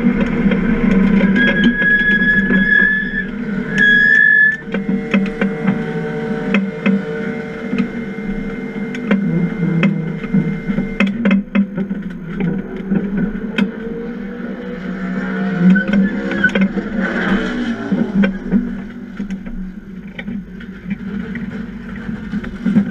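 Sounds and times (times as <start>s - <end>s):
race car engine idling: 0.0s - 20.8s.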